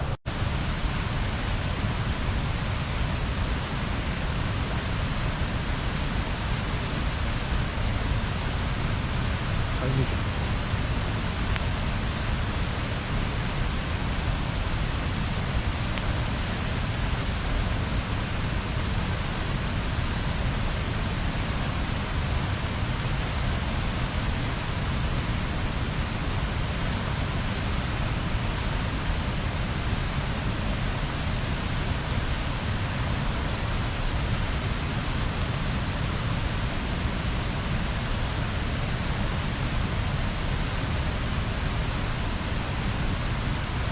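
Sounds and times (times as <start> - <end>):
bonfire hissing and rumbling: 0.0 - 43.9.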